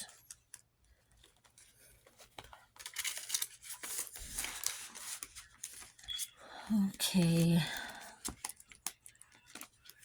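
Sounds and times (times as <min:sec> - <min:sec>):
paper crinkling and rustling: 0:00.4 - 0:06.4, 0:07.0 - 0:10.0.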